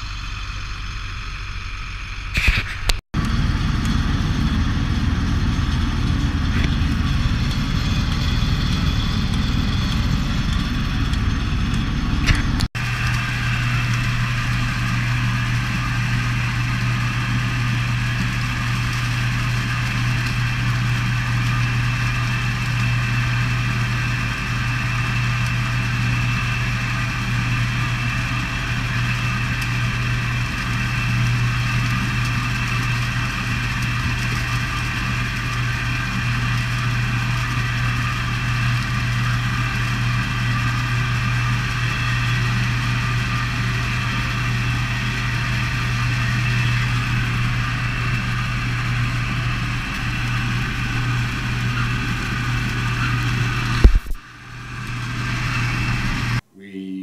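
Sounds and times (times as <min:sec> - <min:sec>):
truck engine idling: 0:00.0 - 0:56.4.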